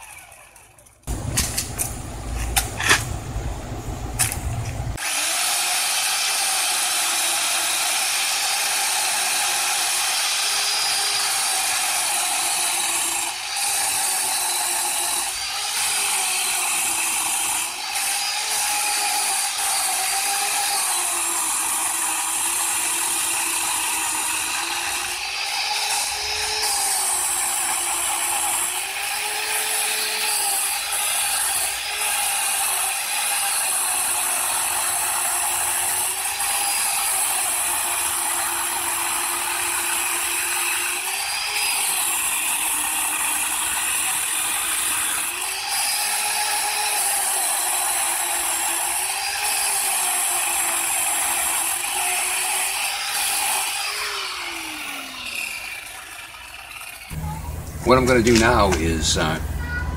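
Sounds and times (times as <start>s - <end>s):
electric chainsaw cutting log: 0.0s - 59.8s.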